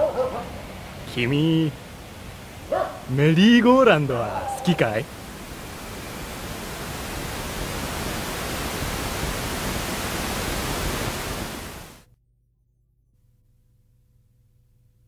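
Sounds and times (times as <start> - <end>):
television static hiss: 0.0 - 12.1.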